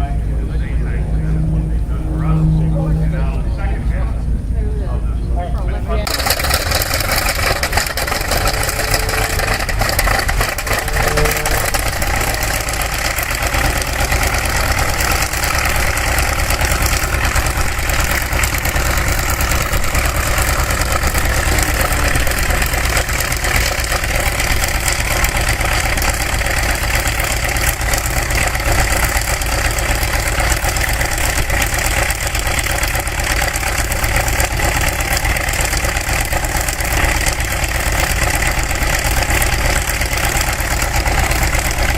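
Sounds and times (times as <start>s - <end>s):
piston aircraft engine running: 0.0s - 41.9s.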